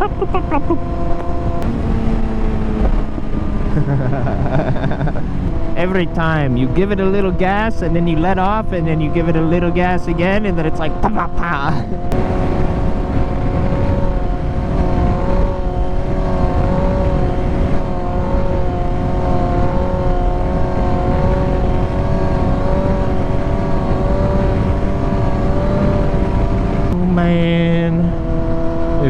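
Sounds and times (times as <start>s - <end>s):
low rumble: 0.0s - 29.0s
motorcycle engine running: 0.0s - 29.0s.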